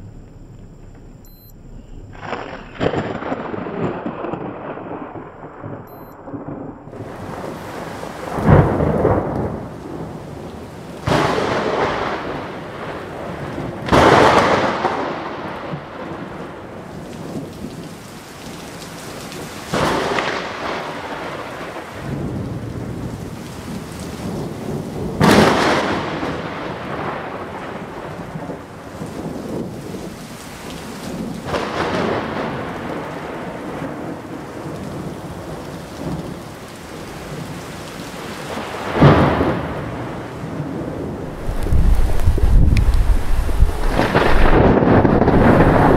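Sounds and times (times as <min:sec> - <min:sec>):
heavy rain hiss: 0:00.0 - 0:05.7, 0:06.4 - 0:45.9
thunder cracks rumbling: 0:00.0 - 0:45.9.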